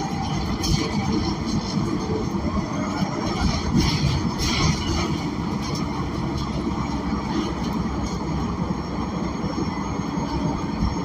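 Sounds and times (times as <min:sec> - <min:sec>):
bus engine running: 0:00.0 - 0:11.0
road and cabin rumble: 0:00.0 - 0:11.0.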